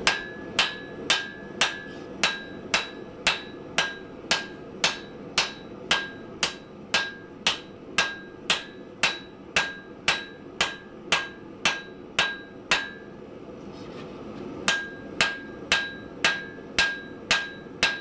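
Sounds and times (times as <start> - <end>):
hammer striking steel on anvil: 0.0 - 13.2, 14.7 - 18.0.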